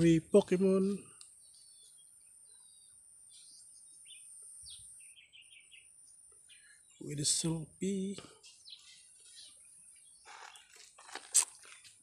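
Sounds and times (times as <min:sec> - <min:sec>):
faint bird chirps: 0:00.7 - 0:10.8.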